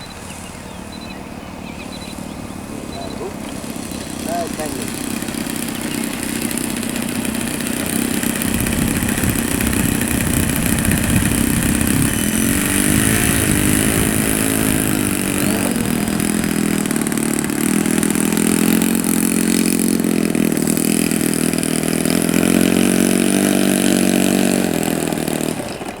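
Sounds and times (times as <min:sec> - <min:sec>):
model airplane engine running: 0:00.0 - 0:26.0.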